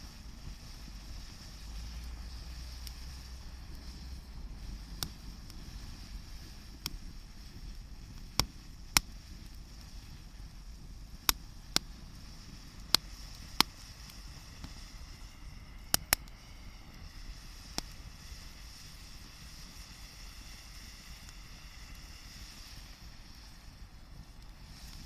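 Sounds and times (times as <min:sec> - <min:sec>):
campfire crackling: 0:00.0 - 0:25.0.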